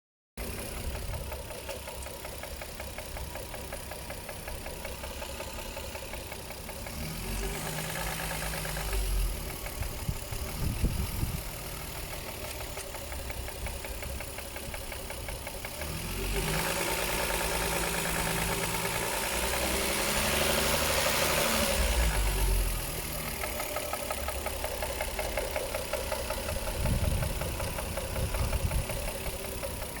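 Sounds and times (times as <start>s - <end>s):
car engine running with knock: 0.4s - 30.0s.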